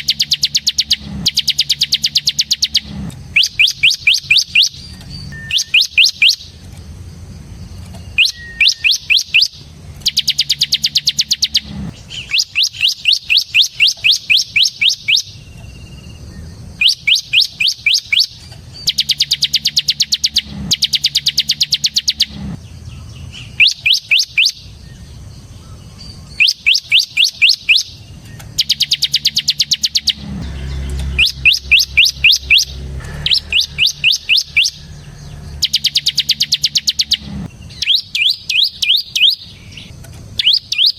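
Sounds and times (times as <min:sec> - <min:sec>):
bird chirping trill: 0:00.0 - 0:40.9.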